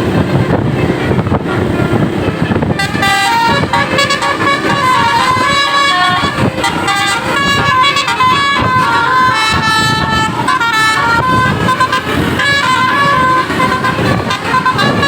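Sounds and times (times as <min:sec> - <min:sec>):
bus engine: 0:00.0 - 0:15.0
bus horn playing a tune: 0:00.0 - 0:15.0
traffic noise: 0:00.0 - 0:15.0.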